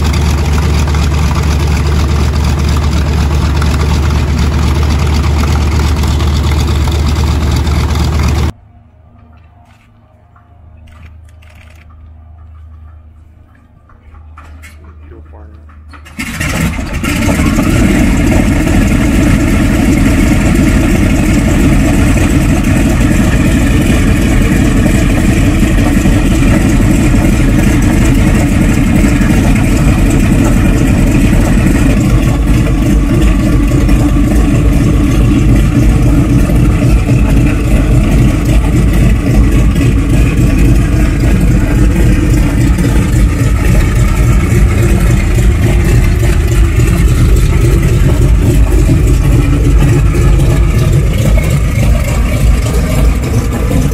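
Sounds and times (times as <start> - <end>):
radial aircraft engine running: 0.0 - 53.9.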